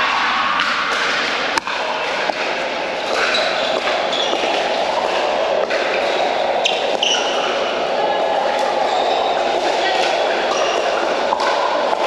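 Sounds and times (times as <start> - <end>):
indoor hall din: 0.0 - 12.0.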